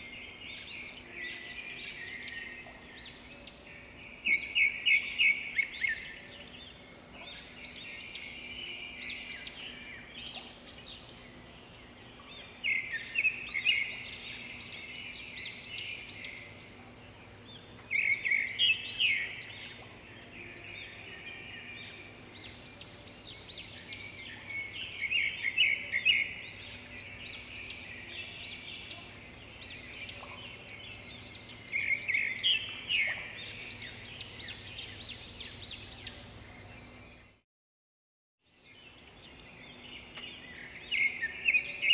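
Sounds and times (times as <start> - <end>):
small birds chirping: 0.0 - 37.4, 38.4 - 41.9.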